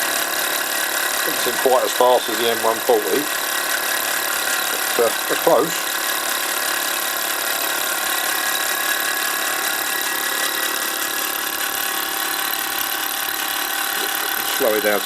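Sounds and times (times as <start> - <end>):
toy steam engine whirring: 0.0 - 15.0.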